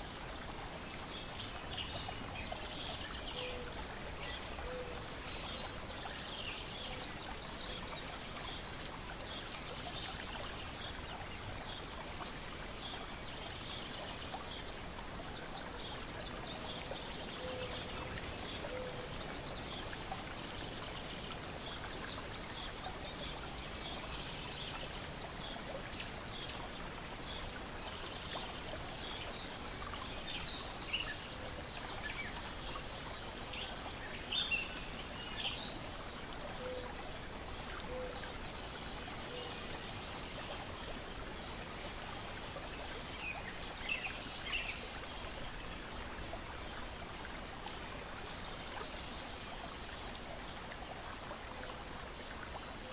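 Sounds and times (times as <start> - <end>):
water lapping and trickling: 0.0 - 52.9.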